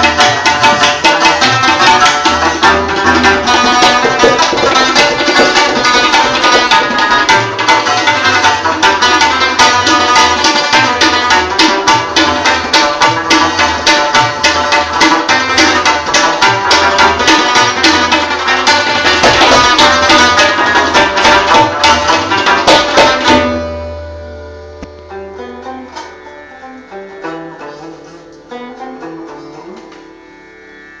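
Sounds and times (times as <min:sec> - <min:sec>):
tabla drum rhythm: 0:00.0 - 0:26.4
plucked lute: 0:00.0 - 0:30.3.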